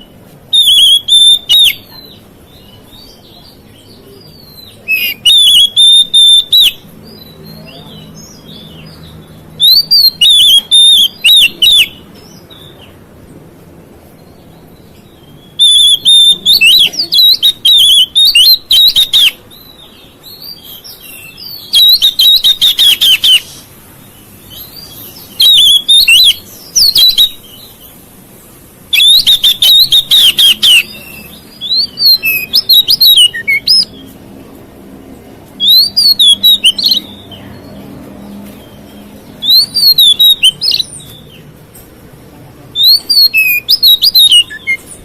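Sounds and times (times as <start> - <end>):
songbird whistling and chattering: 0.0 - 13.0, 14.2 - 28.0, 28.9 - 34.2, 35.6 - 41.5, 42.7 - 45.0.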